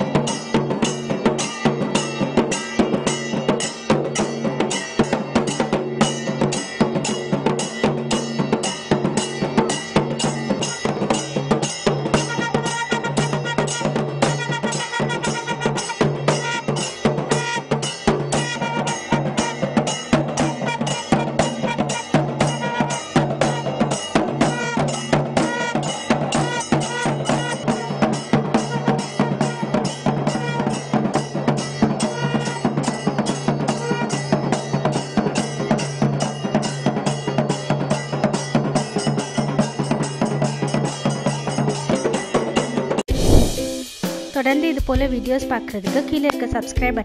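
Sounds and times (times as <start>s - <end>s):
small hand cymbals clashing: 0.0s - 42.9s
drum beaten with sticks: 0.0s - 47.0s.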